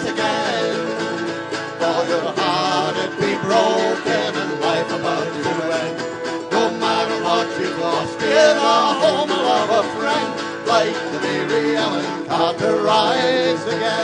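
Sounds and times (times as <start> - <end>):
folk band strumming acoustic guitars: 0.0 - 14.0.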